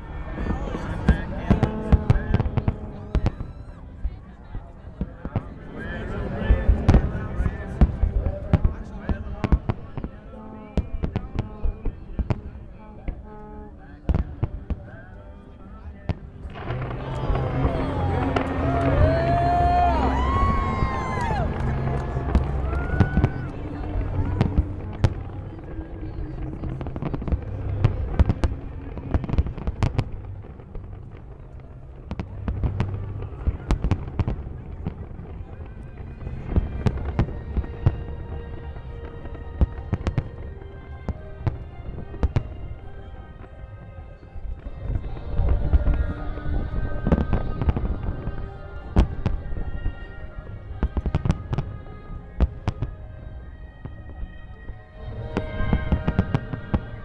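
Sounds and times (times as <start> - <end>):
fireworks bangs and crackles: 0.0 - 13.3, 14.0 - 57.0
music: 0.0 - 57.0.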